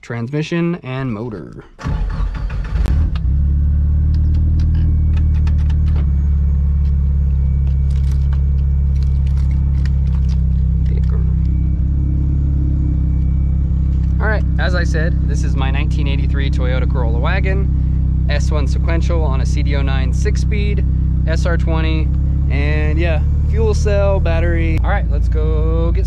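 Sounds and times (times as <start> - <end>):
car engine starting and idling: 1.7 - 26.0.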